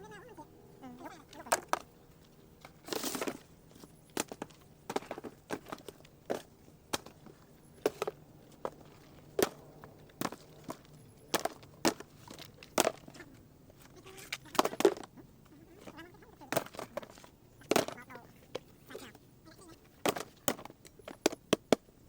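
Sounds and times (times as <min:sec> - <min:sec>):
dried gourds knocking and cracking: 0:00.0 - 0:22.0
gourd shell crunching: 0:00.0 - 0:22.0.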